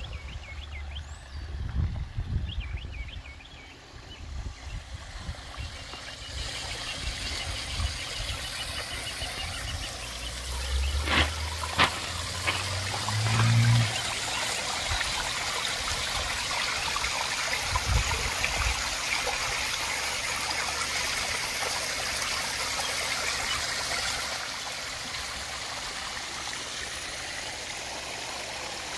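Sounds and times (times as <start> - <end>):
waterfall splashing into pond: 4.8 - 28.9.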